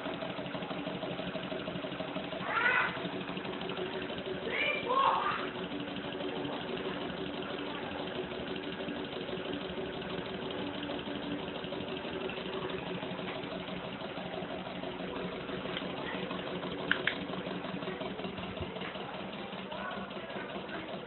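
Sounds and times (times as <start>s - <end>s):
engine running with fast rattle: 0.0s - 21.0s.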